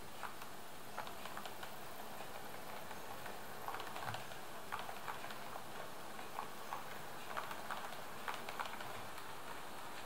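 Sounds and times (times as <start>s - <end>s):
model train wheels clicking: 0.0s - 10.0s
steady hiss: 0.0s - 10.0s.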